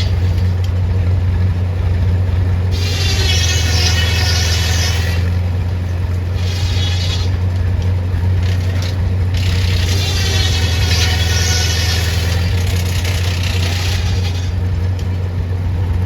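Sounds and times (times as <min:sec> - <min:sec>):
loud engine humming: 0:00.0 - 0:16.0.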